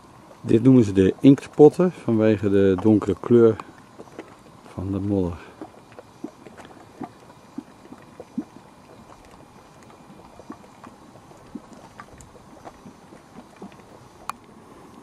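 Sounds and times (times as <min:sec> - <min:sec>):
mud bubbles plopping: 0:00.0 - 0:15.0.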